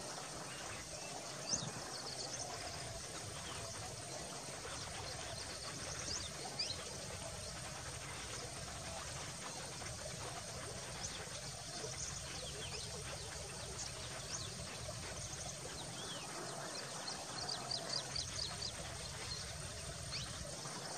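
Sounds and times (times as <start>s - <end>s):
steady background hiss: 0.0s - 20.9s.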